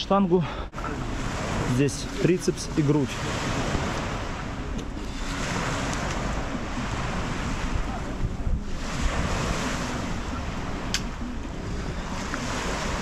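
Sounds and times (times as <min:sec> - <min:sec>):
wind rushing over microphone: 0:00.7 - 0:13.0
small waves washing onto sand: 0:00.8 - 0:13.0.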